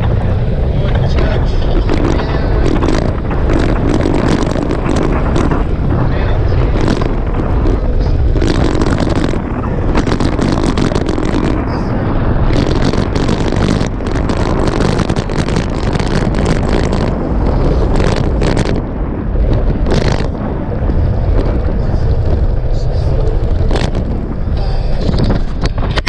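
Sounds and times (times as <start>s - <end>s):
vehicle low rumble: 0.0s - 26.0s
wind buffeting microphone: 0.0s - 26.0s.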